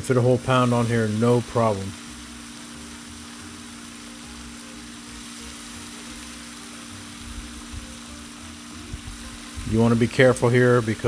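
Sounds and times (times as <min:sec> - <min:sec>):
bacon sizzling on griddle: 0:00.0 - 0:11.0.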